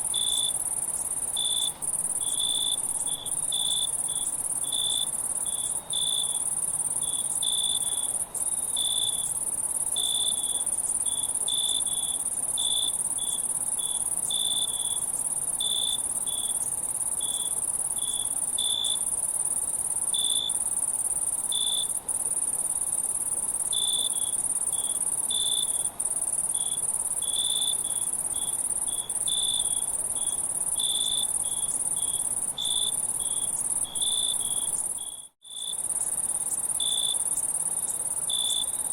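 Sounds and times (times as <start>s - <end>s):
lower insect chirping: 0.0s - 38.9s.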